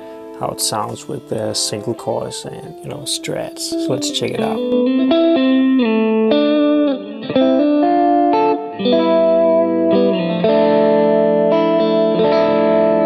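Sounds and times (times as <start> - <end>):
overdriven electric guitar chords: 0.0 - 13.0.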